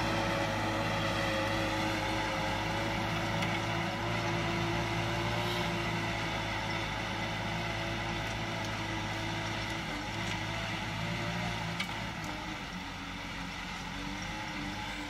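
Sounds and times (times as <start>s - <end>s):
distant tractor diesel engine: 0.0s - 15.0s.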